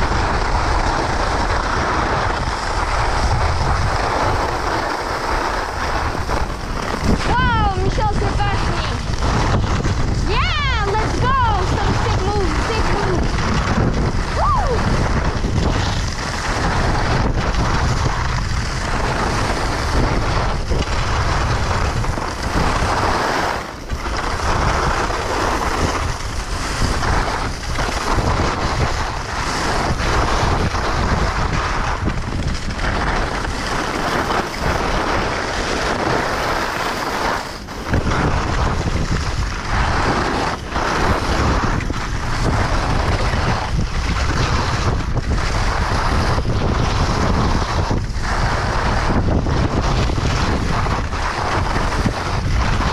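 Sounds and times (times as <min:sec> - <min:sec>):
skis rushing over snow: 0:00.0 - 0:52.9
wind buffeting microphone: 0:00.0 - 0:52.9.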